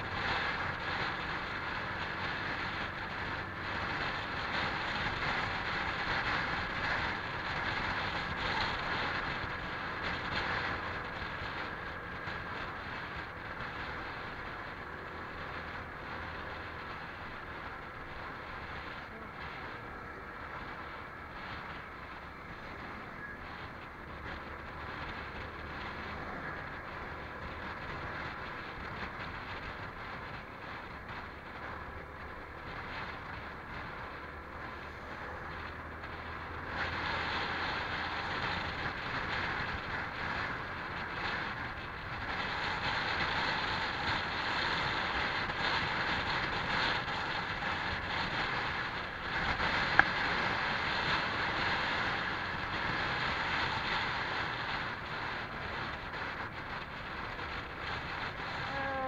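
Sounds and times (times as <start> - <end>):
scooter engine: 0.0 - 59.0
wind on microphone: 0.0 - 59.0.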